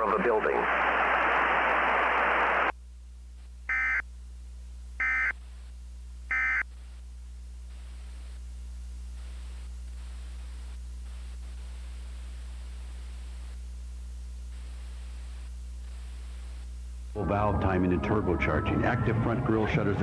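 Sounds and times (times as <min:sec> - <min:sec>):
steady low hum with hiss: 0:00.0 - 0:20.0.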